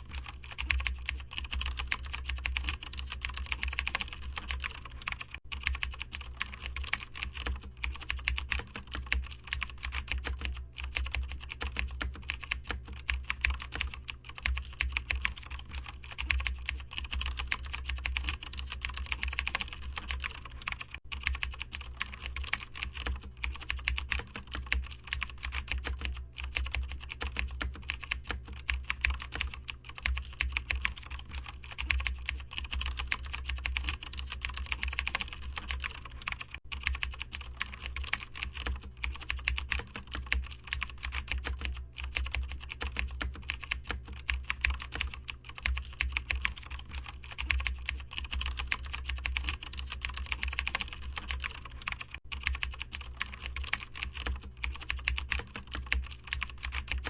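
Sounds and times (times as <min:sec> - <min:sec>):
fast typing on keyboard: 0:00.0 - 0:57.0.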